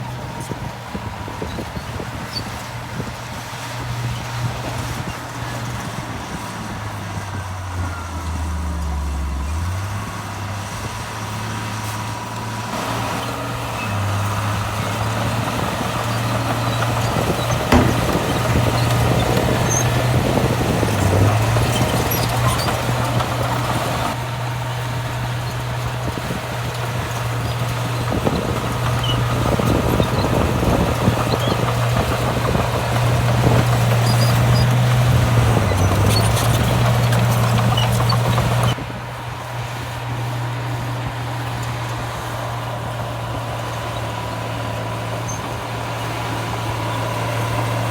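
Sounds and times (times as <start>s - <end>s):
heavy diesel machinery engine: 0.0s - 47.9s
rough mechanical noise: 0.0s - 47.9s.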